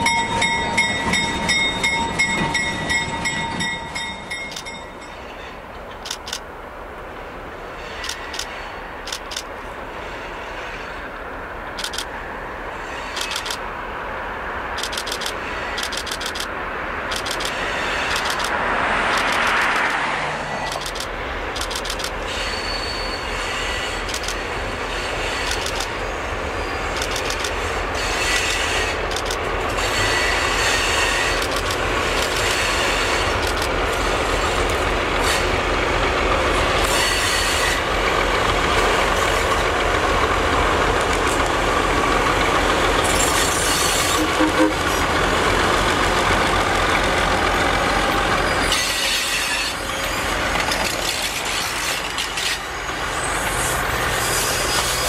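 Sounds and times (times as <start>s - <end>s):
coach wheels rumbling on rails: 0.0s - 55.0s.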